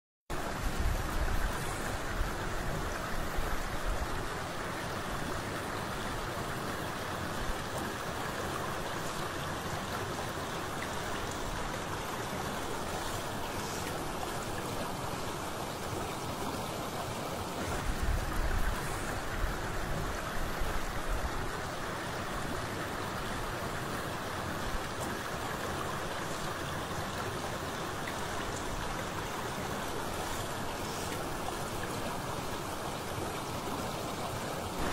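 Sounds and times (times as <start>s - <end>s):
flowing water rushing: 0.3s - 34.9s.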